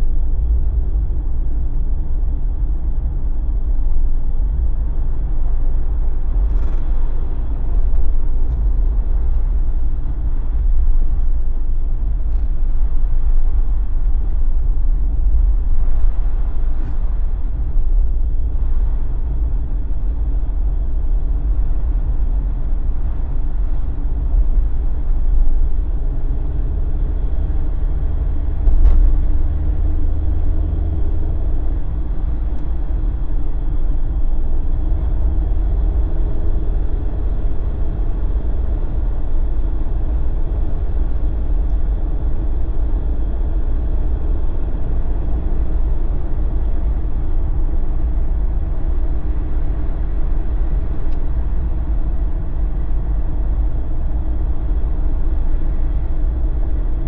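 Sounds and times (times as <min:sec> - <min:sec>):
car engine and road rumble: 0:00.0 - 0:57.0
wavering tyre hum: 0:00.0 - 0:57.0.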